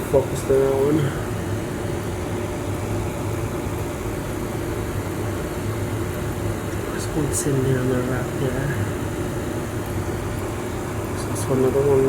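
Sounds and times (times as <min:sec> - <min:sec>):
low machine hum with hiss: 0:00.0 - 0:12.0.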